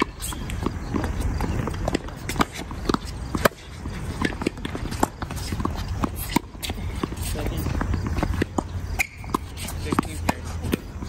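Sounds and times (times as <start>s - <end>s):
racket striking tennis ball: 0.0s - 11.0s
sneaker footsteps: 0.0s - 11.0s
tennis ball bouncing: 0.0s - 11.0s.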